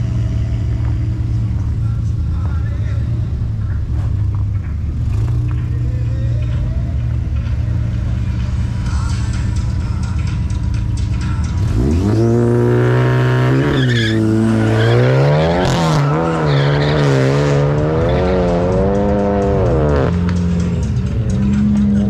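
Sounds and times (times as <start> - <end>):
car engines revving and accelerating: 0.0 - 22.0.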